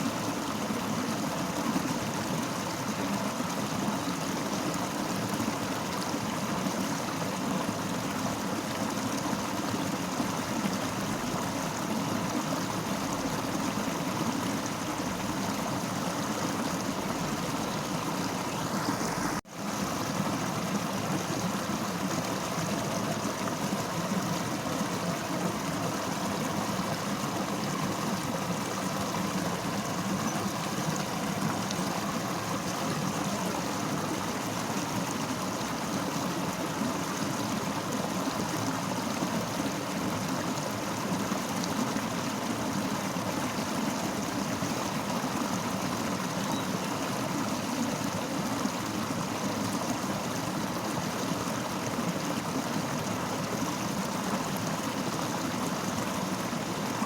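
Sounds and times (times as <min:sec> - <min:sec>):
fast-flowing river: 0:00.0 - 0:57.0.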